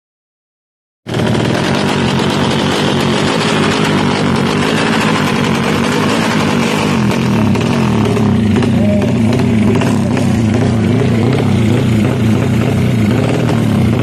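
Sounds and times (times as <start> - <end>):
motorcycle engine running loudly: 1.1 - 14.0.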